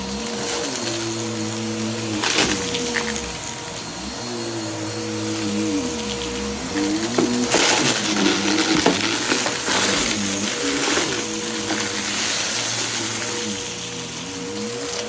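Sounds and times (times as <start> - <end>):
debris rattling in vacuum: 0.0 - 15.0
vacuum cleaner motor whine: 0.0 - 15.0.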